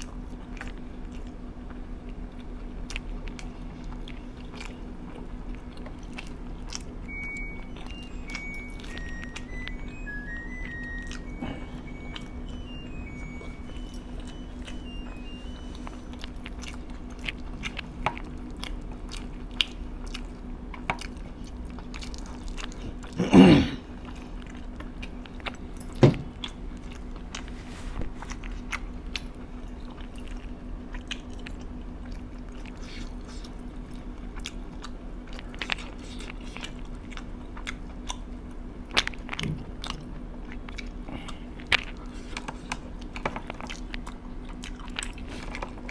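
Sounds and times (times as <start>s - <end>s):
low steady hum: 0.0s - 45.9s
person chewing crunchy food: 0.0s - 45.9s.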